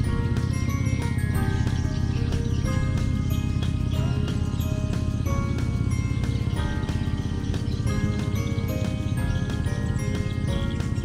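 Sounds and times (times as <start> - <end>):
melodic music with fast beat: 0.0 - 11.0.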